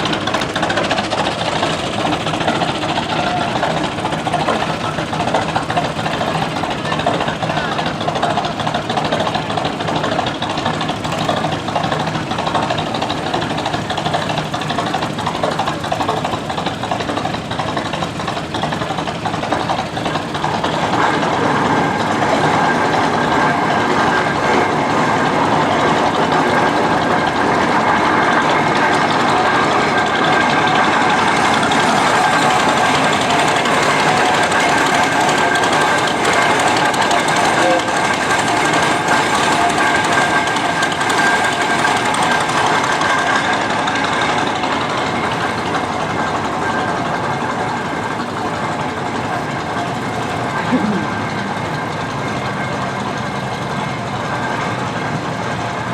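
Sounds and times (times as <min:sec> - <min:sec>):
garden tractor engine running hard: 0:00.0 - 0:55.9.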